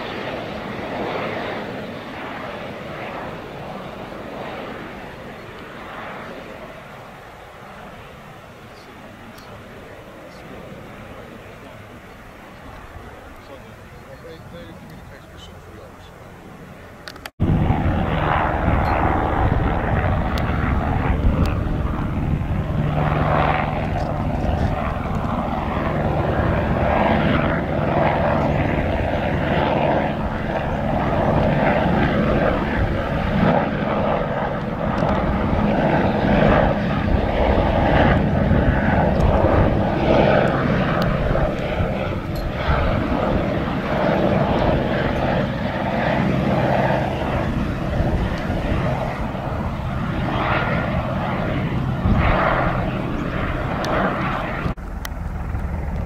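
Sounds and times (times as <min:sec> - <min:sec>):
helicopter flying past: 0:00.0 - 0:56.0.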